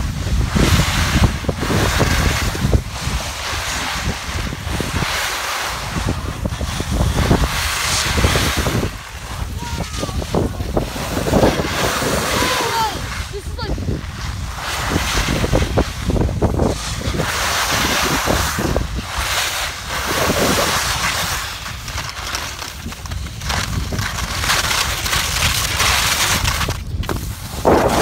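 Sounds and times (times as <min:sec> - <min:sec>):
skis hissing over snow: 0:00.0 - 0:28.0
wind buffeting microphone: 0:00.0 - 0:28.0.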